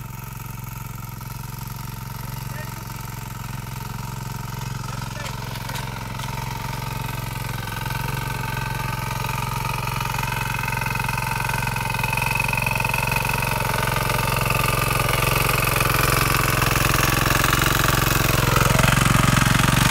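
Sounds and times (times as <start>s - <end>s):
power tiller diesel engine: 0.0s - 19.9s.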